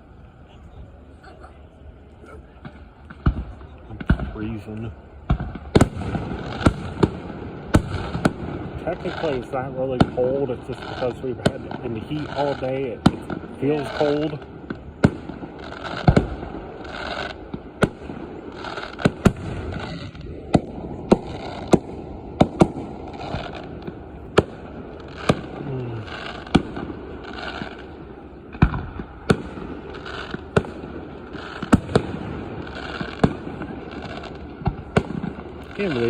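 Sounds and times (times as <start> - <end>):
fireworks bursting with sharp bangs: 2.1 - 36.0.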